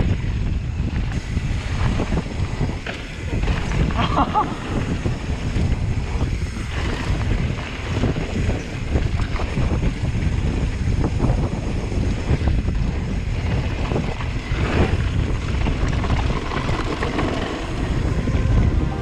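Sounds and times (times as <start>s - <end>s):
stones and bike rattling: 0.0s - 19.0s
tyres rumbling on gravel: 0.0s - 19.0s
wind buffeting microphone: 0.0s - 19.0s.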